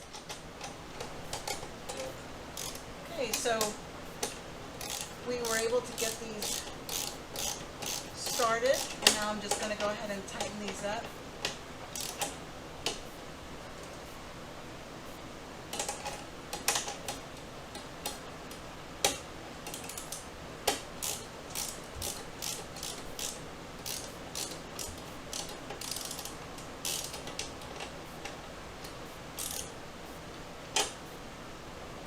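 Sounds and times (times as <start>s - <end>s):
hand ratchet clicking: 0.0s - 13.0s, 15.7s - 17.2s, 17.8s - 29.7s.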